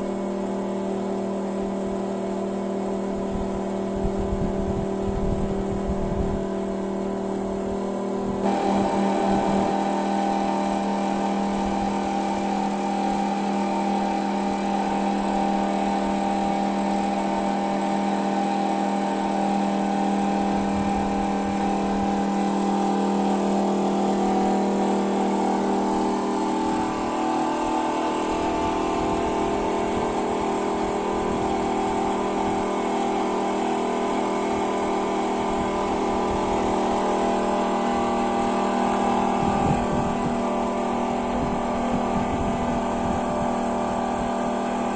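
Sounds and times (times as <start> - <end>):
excavator engine running: 0.0 - 44.9.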